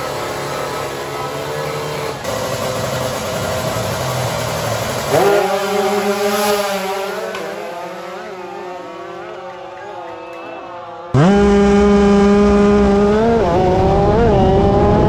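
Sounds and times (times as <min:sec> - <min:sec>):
motorcycles revving and launching: 0:00.0 - 0:09.3, 0:11.0 - 0:15.0.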